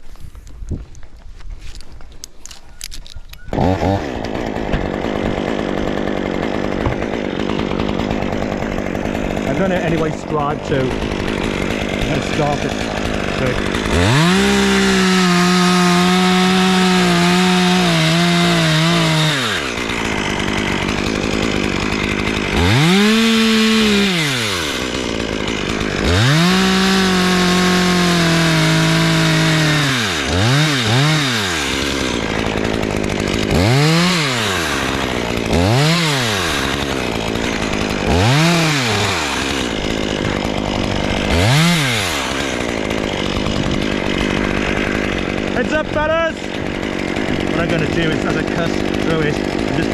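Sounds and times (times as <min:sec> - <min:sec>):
chainsaw revving and idling: 0:02.2 - 0:49.9.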